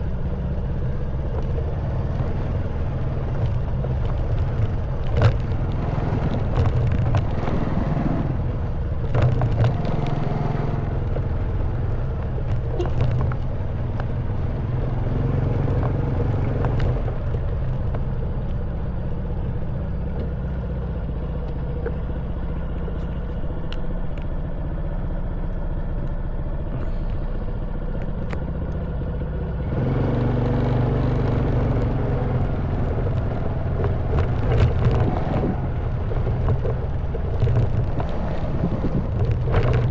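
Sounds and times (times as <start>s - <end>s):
clicks and rattles on rough track: 0.0s - 39.9s
motorcycle engine running: 0.0s - 39.9s.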